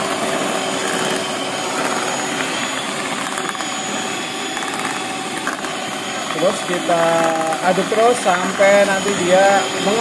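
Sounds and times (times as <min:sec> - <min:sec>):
electric hand mixer whipping batter: 0:00.0 - 0:10.0.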